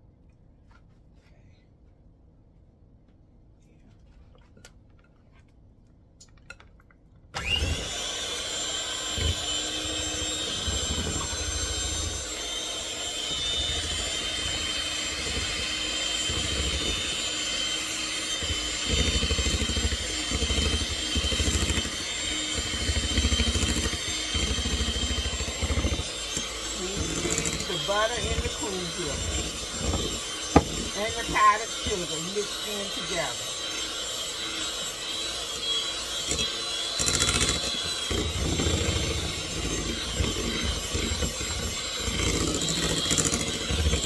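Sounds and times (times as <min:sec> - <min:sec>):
beaters churning thick cream: 0:07.4 - 0:44.0
electric hand mixer whining: 0:07.4 - 0:44.0.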